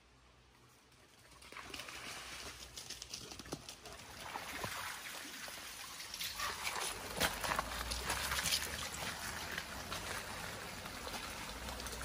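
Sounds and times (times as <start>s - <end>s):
stream trickling over stones: 0.9s - 12.0s.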